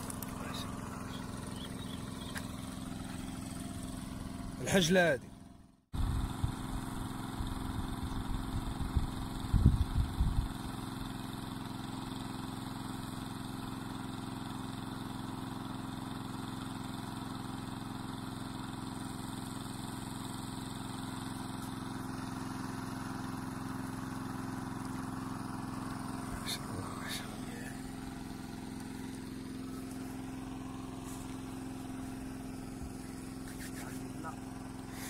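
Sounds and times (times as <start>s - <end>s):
motor humming steadily: 0.0s - 35.0s.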